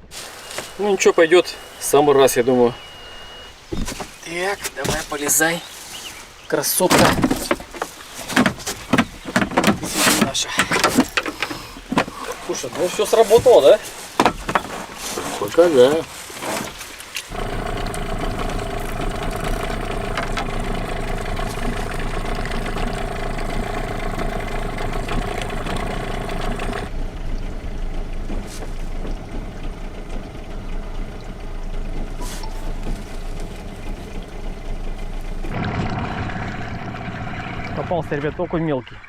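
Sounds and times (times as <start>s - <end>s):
outboard motor running: 7.2s - 38.5s.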